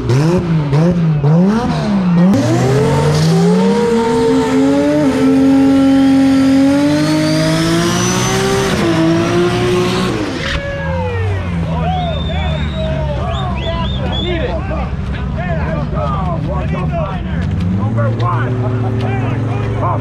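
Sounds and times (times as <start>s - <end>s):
drag car engine revving: 0.0s - 20.0s
tyres spinning in a burnout: 0.0s - 20.0s.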